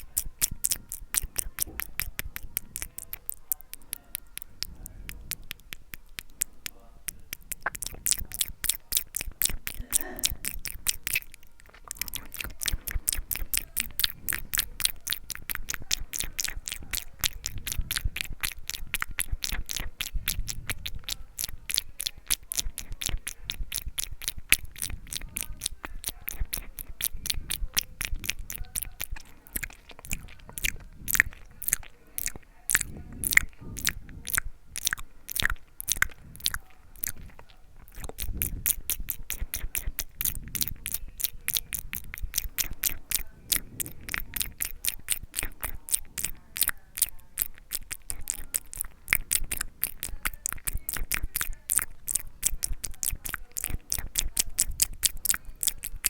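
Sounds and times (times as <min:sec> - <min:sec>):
wet tongue and lip clicks: 0:00.0 - 0:56.0.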